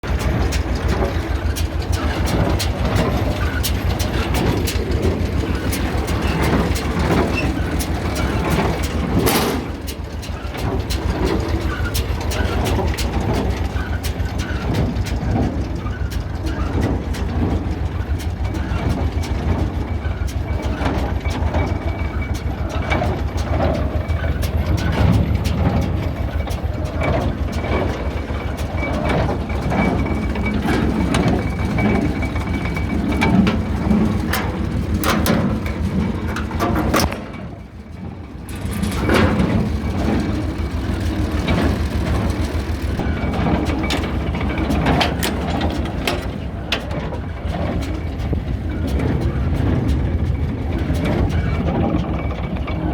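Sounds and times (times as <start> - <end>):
baler mechanical clatter: 0.0 - 52.9
tractor engine hum: 0.0 - 52.9.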